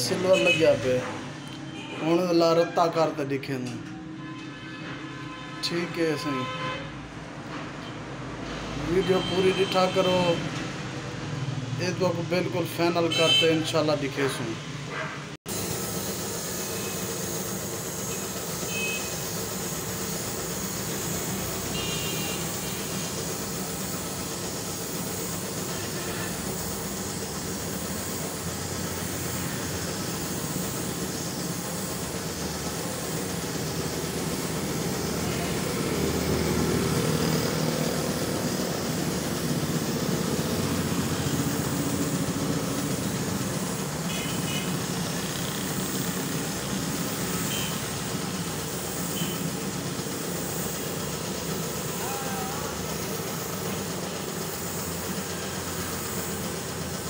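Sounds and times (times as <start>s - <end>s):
paint spray gun hissing: 0.0s - 2.3s, 8.2s - 14.3s, 15.5s - 57.0s.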